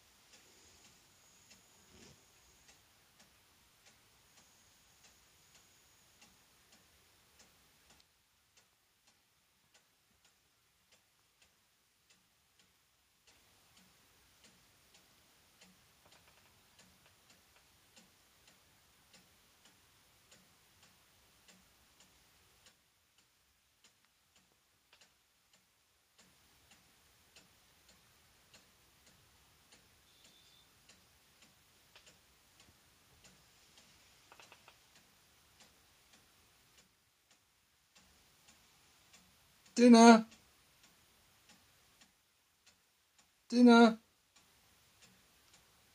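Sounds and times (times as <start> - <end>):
faint steady ticking: 0.0 - 45.9.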